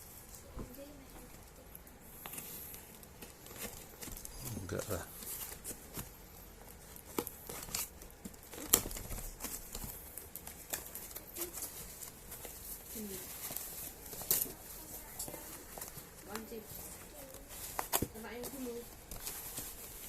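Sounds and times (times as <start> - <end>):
crinkling and rustling: 0.0 - 20.0.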